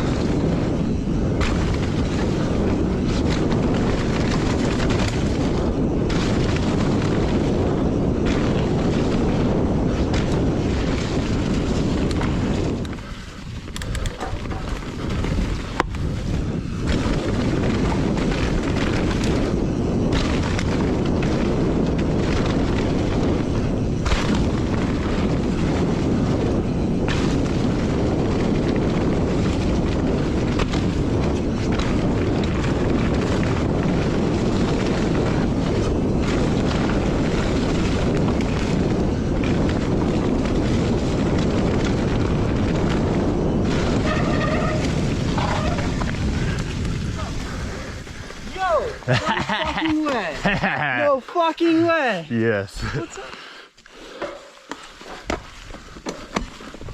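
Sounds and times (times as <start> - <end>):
bike knocking and rattling: 0.0 - 51.1, 54.0 - 56.9
wind buffeting microphone: 0.0 - 56.9.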